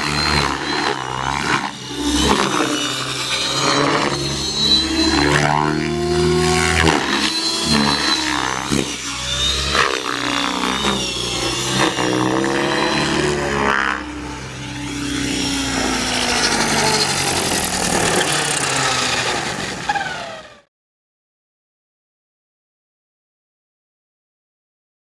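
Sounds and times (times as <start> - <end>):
rc helicopter rotor whining: 0.0 - 20.7.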